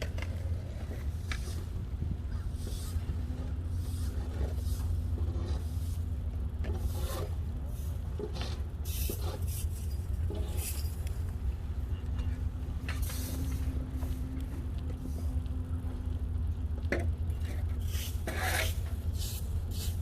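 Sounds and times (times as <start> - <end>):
wind rumble on microphone: 0.0 - 17.8
road noise: 0.0 - 20.0.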